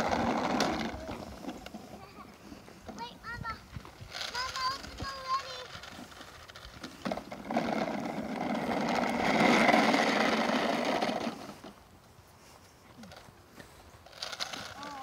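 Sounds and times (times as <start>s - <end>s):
toy truck wheels rattling on asphalt: 0.0s - 11.9s, 14.0s - 15.0s.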